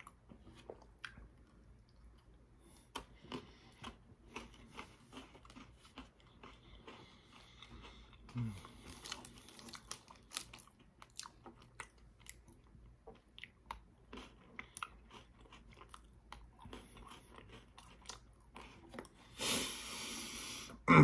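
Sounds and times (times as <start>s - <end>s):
person chewing crunchy biscuits: 0.0s - 20.8s.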